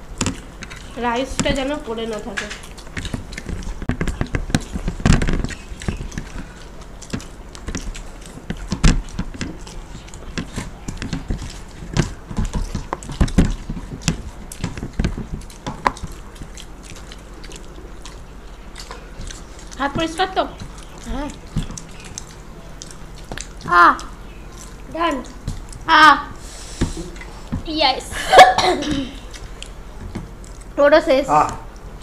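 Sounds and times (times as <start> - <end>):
people chewing food: 0.0 - 32.0.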